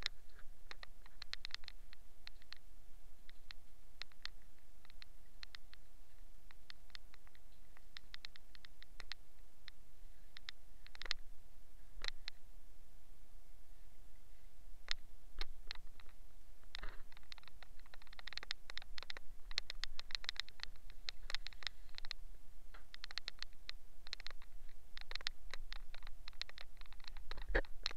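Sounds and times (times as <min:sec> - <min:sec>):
steady electrical hum: 0:00.0 - 0:27.9.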